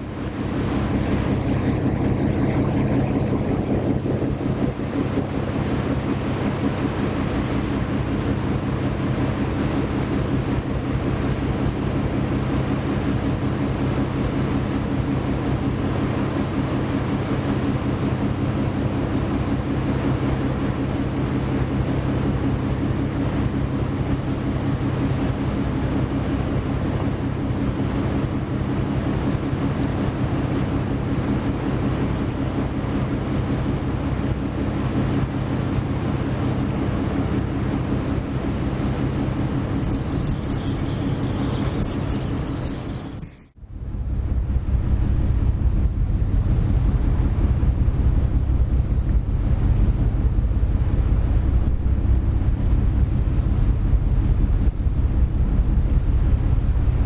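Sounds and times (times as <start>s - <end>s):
ship engine droning: 0.0s - 57.0s.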